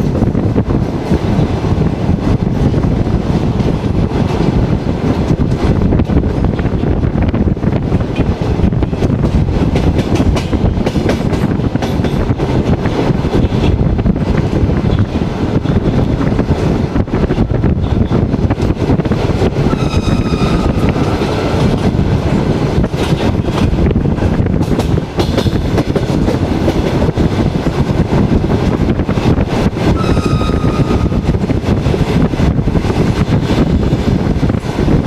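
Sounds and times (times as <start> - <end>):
train wheels rumbling: 0.0 - 35.0
wind on microphone: 0.0 - 35.0.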